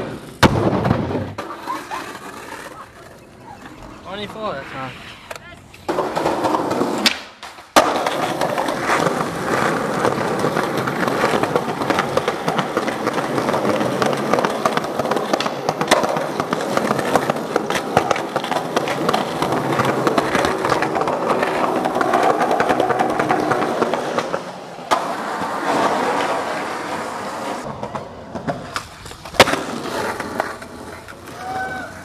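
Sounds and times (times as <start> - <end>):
skateboard wheels rolling on concrete: 0.0 - 32.0.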